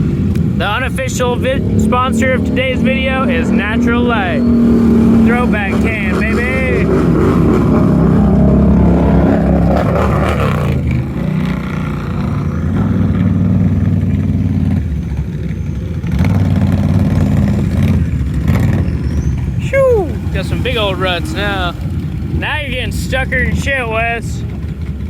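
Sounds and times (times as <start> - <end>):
truck engine revving hard: 0.0 - 25.0
wheels spinning in mud: 3.1 - 25.0.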